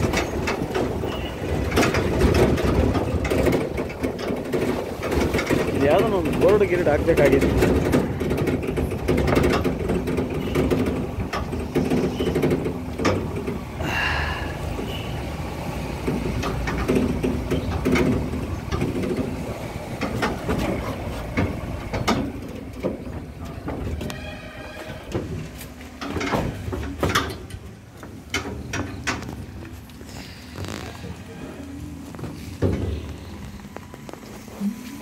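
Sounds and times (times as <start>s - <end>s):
knocks and rattles from vehicle body: 0.0s - 31.3s, 32.0s - 34.5s
vehicle engine hum: 0.0s - 35.0s.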